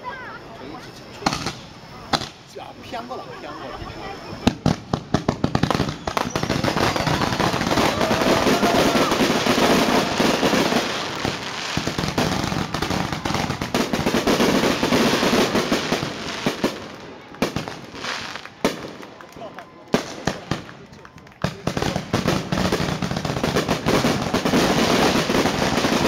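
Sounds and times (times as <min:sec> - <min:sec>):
fireworks popping and crackling: 0:01.1 - 0:03.1, 0:04.1 - 0:26.0
fireworks sharp bangs: 0:01.2 - 0:02.7, 0:04.4 - 0:19.3, 0:19.9 - 0:20.8, 0:21.4 - 0:26.0.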